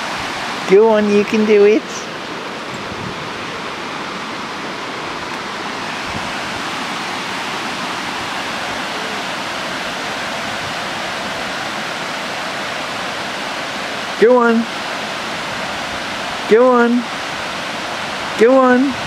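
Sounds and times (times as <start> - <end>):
water rushing over a weir: 0.0 - 19.0.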